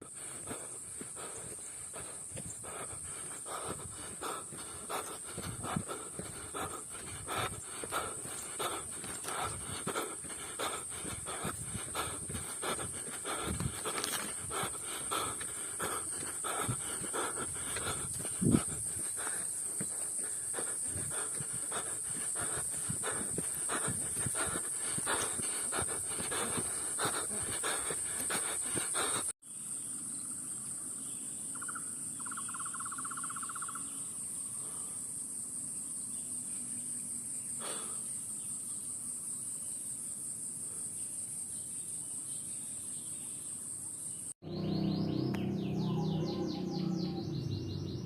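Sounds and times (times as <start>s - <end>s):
high-pitched insect chorus: 0.0s - 44.4s.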